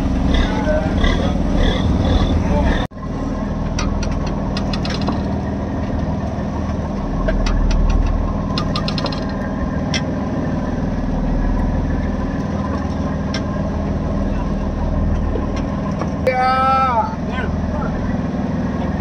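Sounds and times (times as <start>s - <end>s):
boat engine throbbing: 0.0s - 19.0s.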